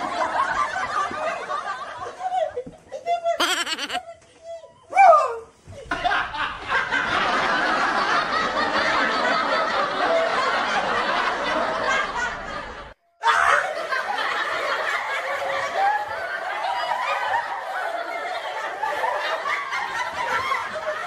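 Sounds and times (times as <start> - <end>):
people laughing: 0.0 - 4.2, 5.8 - 21.0.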